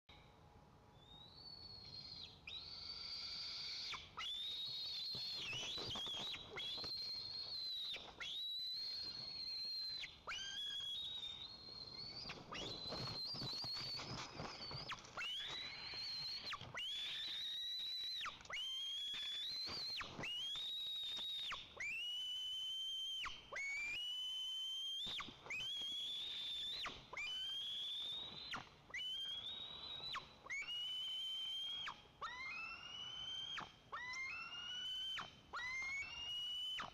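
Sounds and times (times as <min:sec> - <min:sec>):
eaglet whistled begging calls: 0:01.0 - 0:22.6, 0:25.0 - 0:36.9.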